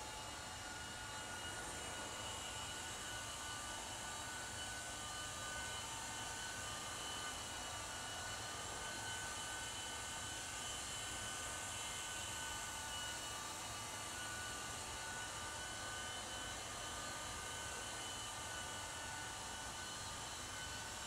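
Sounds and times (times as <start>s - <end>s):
toy helicopter motor whine: 0.0s - 21.0s.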